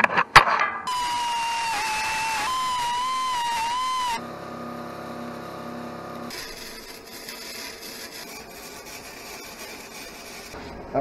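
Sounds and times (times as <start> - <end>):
welding arc buzzing: 0.9 - 11.0
welding crackle: 1.0 - 4.2, 5.3 - 11.0.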